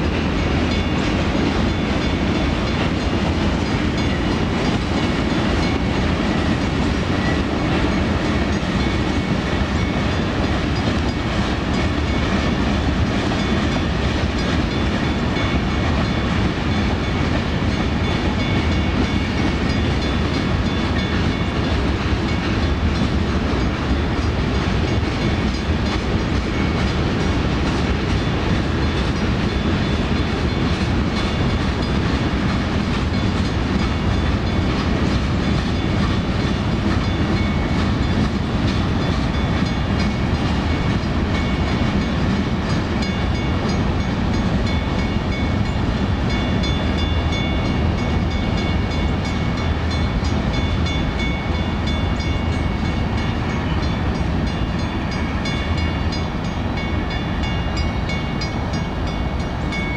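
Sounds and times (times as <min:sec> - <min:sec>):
clickety-clack over rail joints: 0:00.0 - 0:59.9
crossing bell ringing: 0:00.0 - 0:59.9
train wheels rumbling on rails: 0:00.0 - 0:59.9.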